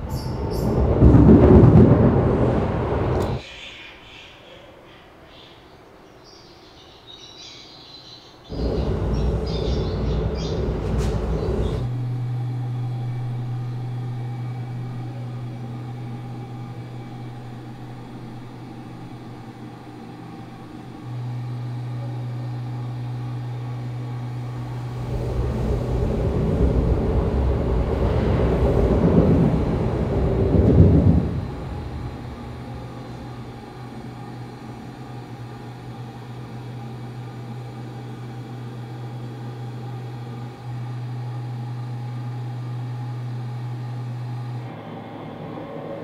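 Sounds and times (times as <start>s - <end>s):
steady low hum: 0.0s - 3.5s, 8.3s - 46.0s
train rumbling overhead: 0.0s - 3.7s, 8.4s - 46.0s.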